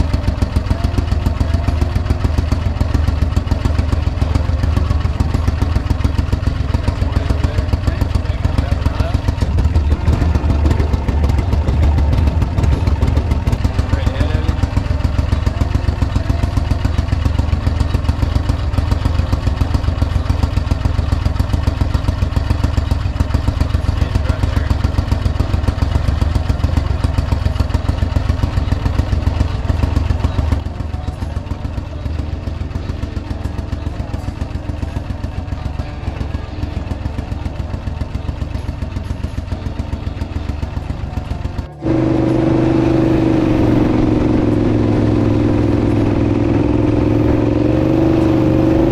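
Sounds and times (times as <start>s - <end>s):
engine hum with clear tones: 0.0s - 48.9s
small boat motor running: 0.0s - 48.9s.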